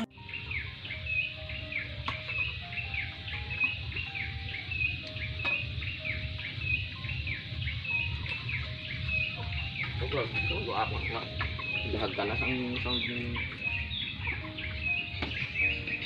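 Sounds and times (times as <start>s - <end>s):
bird chirping: 0.0s - 16.0s
soft background music: 0.0s - 16.0s.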